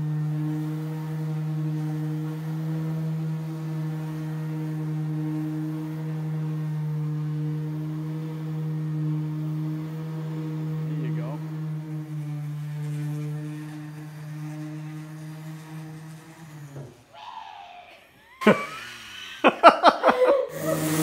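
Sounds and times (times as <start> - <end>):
electric sander humming: 0.0 - 21.0.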